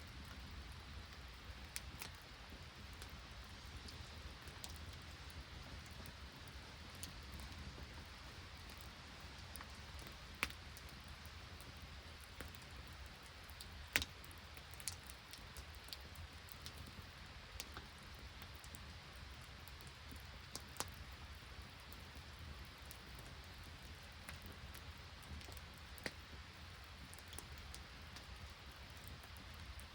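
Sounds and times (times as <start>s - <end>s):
campfire pops and crackles: 0.0s - 29.9s
light rain hissing: 0.0s - 29.9s.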